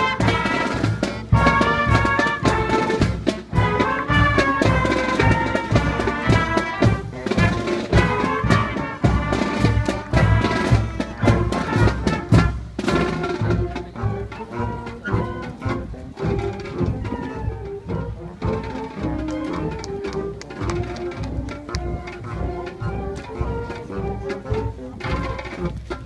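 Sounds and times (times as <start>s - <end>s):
brass playing a march tune: 0.0s - 26.0s
steady drum beat: 0.0s - 26.0s.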